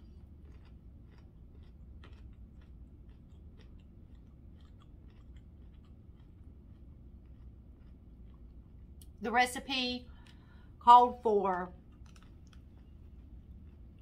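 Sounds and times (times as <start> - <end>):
person chewing food: 0.0 - 9.2, 10.1 - 10.8, 11.7 - 14.0
low steady hum: 0.0 - 14.0.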